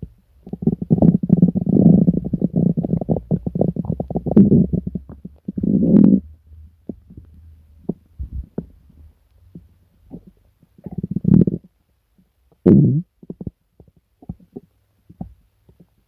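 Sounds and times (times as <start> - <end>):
stomach growling and gurgling: 0.0 - 8.9, 9.5 - 11.8, 12.5 - 16.0.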